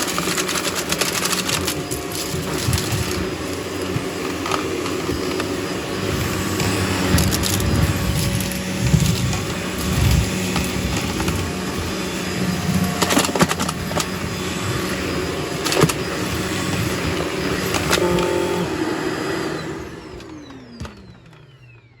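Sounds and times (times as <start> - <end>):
debris clicking in vacuum: 0.0 - 18.8
vacuum cleaner running: 0.0 - 22.0
vacuum motor winding down: 0.0 - 22.0.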